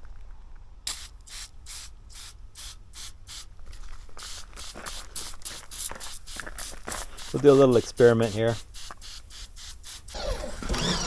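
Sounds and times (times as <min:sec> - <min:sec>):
spray bottle hissing spurts: 0:00.8 - 0:10.2.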